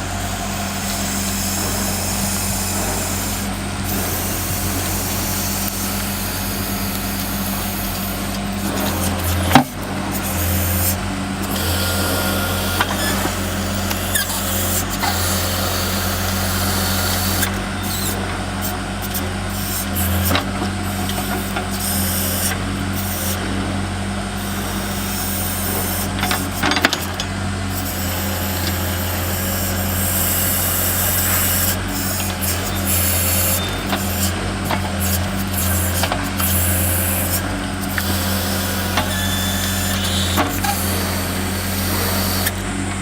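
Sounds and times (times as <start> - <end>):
loader engine running: 0.0 - 43.0.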